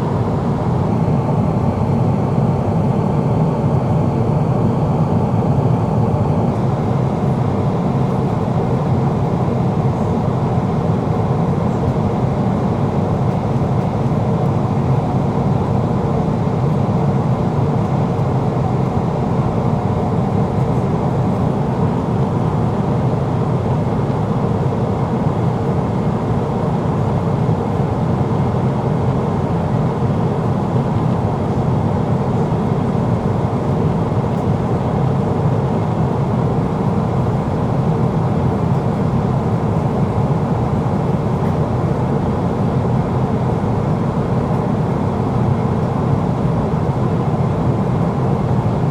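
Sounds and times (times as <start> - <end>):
jet engines humming: 0.0 - 48.9.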